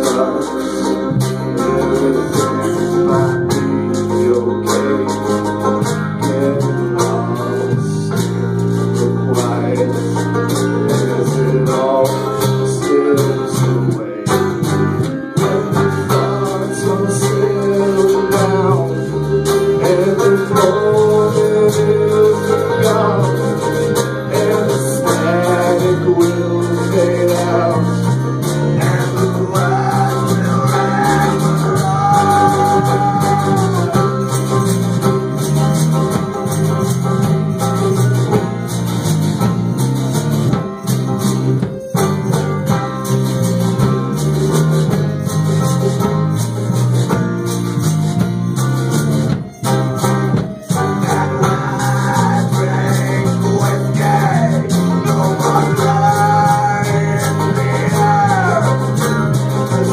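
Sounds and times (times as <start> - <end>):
person singing: 0.0 - 38.7, 49.6 - 59.9
drums: 0.0 - 59.9
strummed guitars: 0.0 - 59.9.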